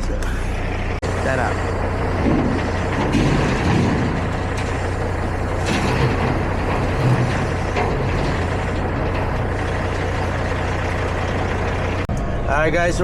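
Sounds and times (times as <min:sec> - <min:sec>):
diesel truck engine running: 0:00.0 - 0:13.0
road noise: 0:00.0 - 0:13.0.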